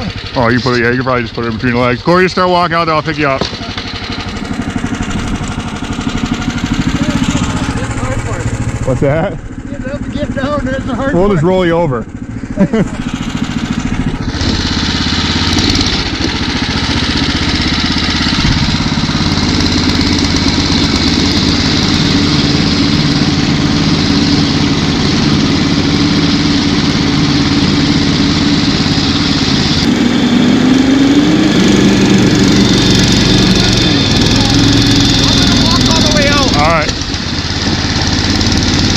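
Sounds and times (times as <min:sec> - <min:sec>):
motor-sled engine running: 0:00.0 - 0:38.9.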